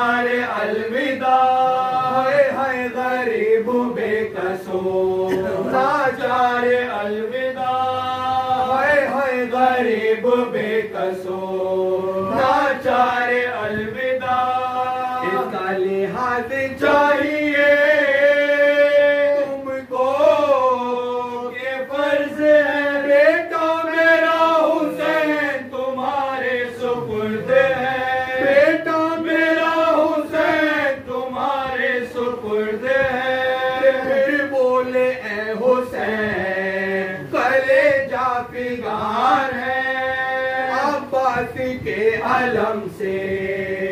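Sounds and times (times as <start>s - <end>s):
men chanting into a microphone: 0.0s - 43.9s.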